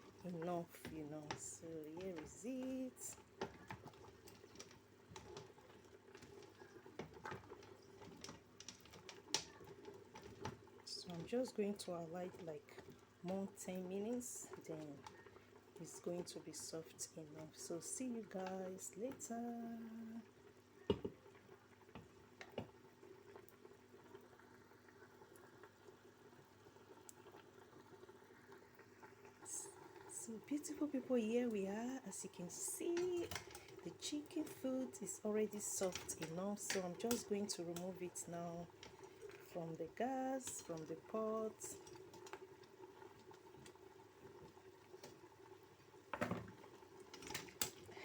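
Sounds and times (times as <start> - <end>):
pot of water simmering: 0.0 - 48.0.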